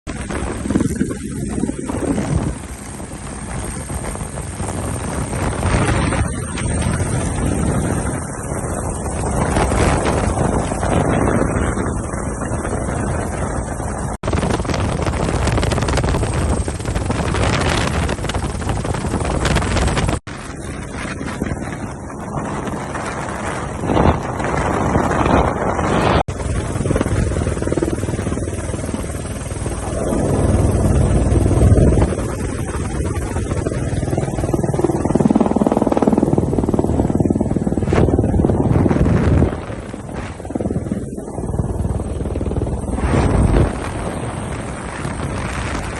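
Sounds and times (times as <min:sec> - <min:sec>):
helicopter rotor and engine: 0:00.1 - 0:45.9
wind buffeting microphone: 0:00.1 - 0:45.9.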